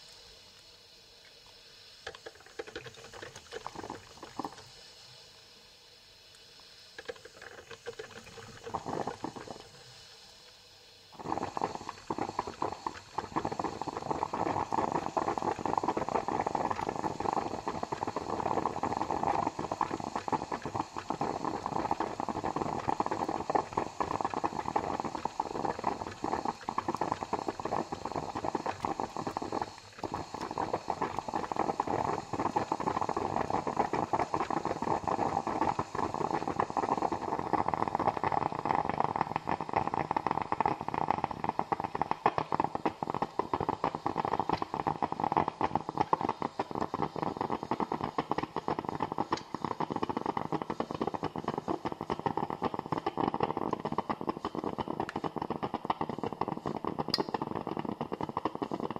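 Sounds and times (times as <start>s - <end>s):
coffee maker bubbling and sputtering: 0.0s - 58.9s.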